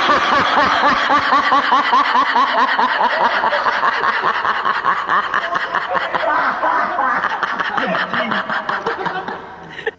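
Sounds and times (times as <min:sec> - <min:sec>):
high-pitched pulsing laughter: 0:00.0 - 0:09.9.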